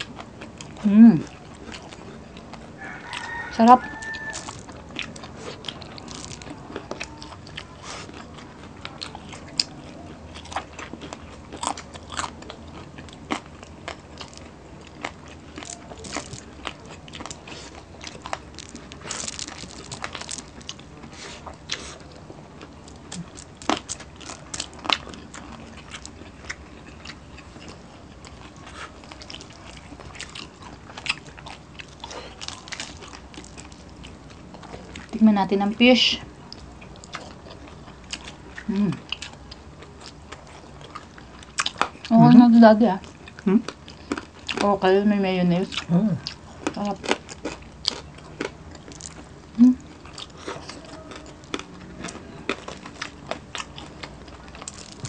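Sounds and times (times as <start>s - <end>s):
chewing with crunchy bites: 0.0s - 55.0s.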